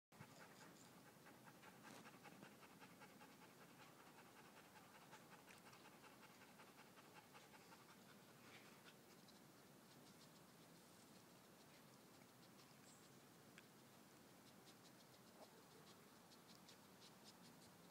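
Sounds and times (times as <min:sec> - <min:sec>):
dog panting: 0:00.2 - 0:17.9.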